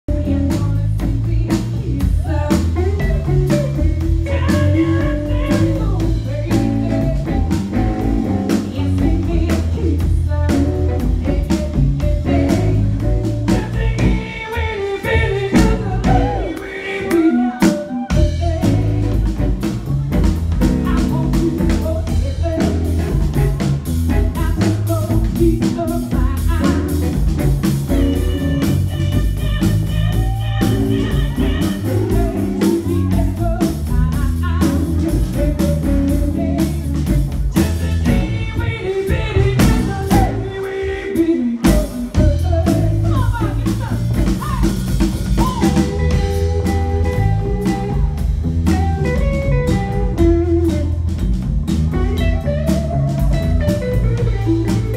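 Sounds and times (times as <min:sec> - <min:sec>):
bass guitar: 0:00.0 - 0:54.9
drum kit: 0:00.0 - 0:54.9
woman belting vocals: 0:00.1 - 0:50.9
electric guitar: 0:00.1 - 0:54.9.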